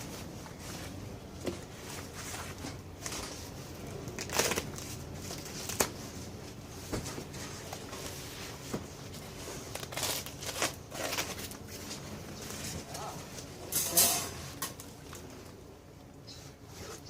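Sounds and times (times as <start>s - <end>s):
packaging rustling and crinkling: 0.0s - 13.7s.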